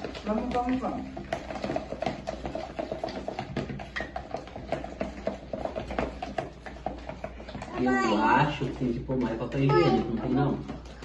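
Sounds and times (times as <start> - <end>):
wet slime stirred in a bowl: 0.0 - 11.0.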